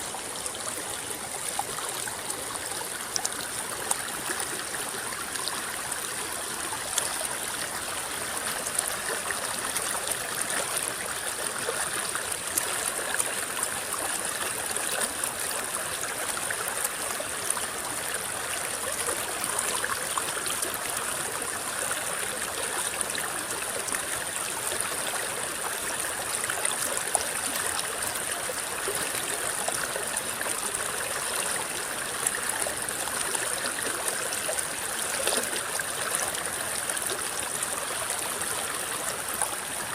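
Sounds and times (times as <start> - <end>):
river water trickling over stones: 0.0 - 39.9.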